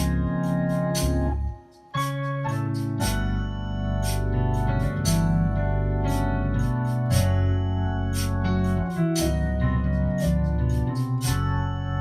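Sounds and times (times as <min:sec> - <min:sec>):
gospel organ chords: 0:00.0 - 0:12.0.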